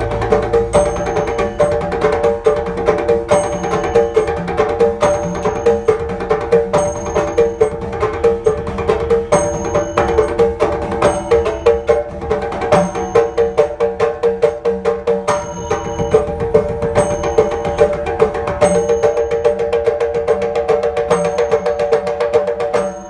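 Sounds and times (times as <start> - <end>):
fast pot drum strokes: 0.0 - 23.0
hourglass drum: 0.0 - 23.0
small cymbals ringing: 0.0 - 23.0.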